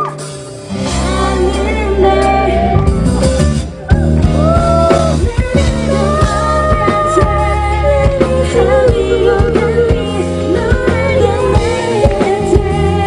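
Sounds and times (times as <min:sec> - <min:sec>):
pop song through loudspeakers: 0:00.0 - 0:13.0.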